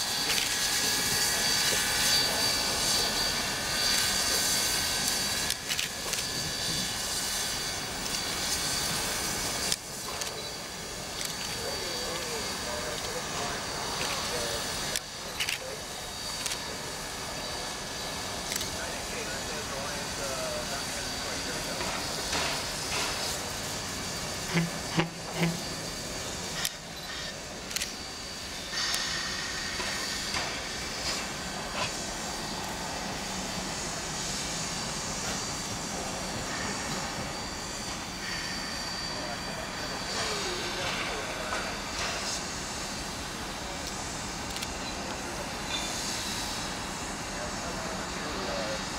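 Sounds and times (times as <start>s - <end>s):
steam hissing: 0.0s - 48.9s
steam locomotive exhaust chuffs: 0.0s - 48.9s.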